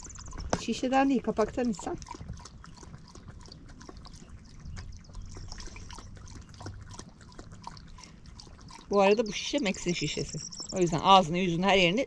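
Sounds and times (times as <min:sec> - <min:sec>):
dog lapping water: 0:00.0 - 0:12.0.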